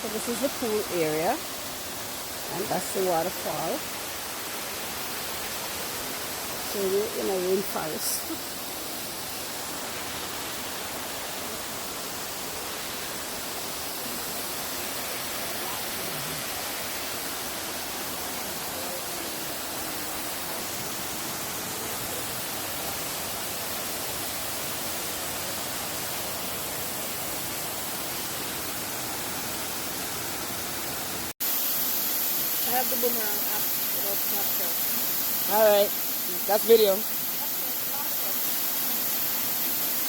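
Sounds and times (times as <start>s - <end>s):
waterfall rushing into pool: 0.0s - 40.0s.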